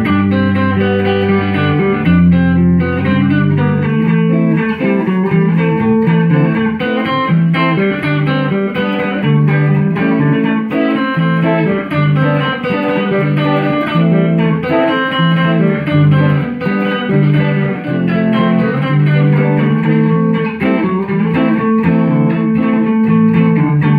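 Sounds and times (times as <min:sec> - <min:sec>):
electric guitar melody: 0:00.0 - 0:23.9
low sustained guitar notes: 0:00.0 - 0:23.9.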